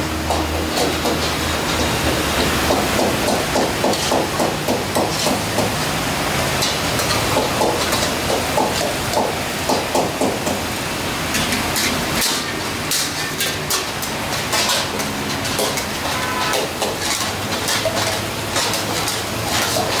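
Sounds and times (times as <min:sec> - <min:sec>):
metal spatulas clanking on woks: 0:00.3 - 0:09.3, 0:11.2 - 0:20.0
meat sizzling: 0:00.5 - 0:20.0.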